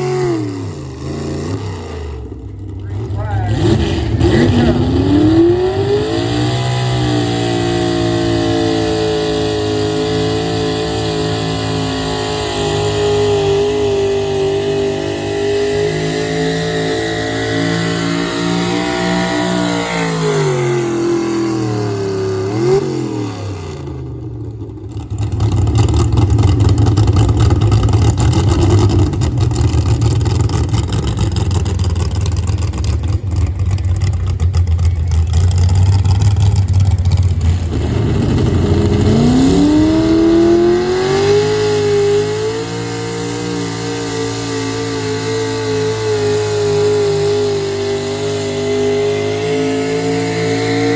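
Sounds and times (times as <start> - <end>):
pulling vehicle engine revving: 0.0 - 50.9
rough engine at full throttle: 0.0 - 50.9.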